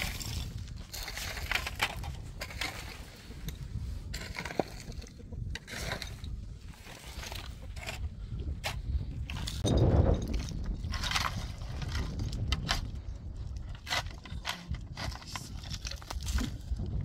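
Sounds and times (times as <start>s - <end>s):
crunching and scraping on gravel: 0.0s - 17.0s
steady low rumble: 0.0s - 17.0s.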